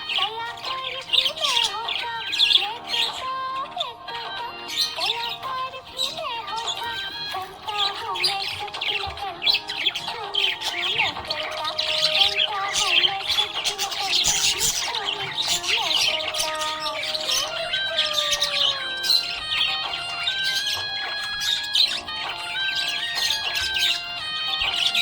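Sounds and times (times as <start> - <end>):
background music: 0.0 - 25.0
parrots chirping and squawking: 0.0 - 25.0.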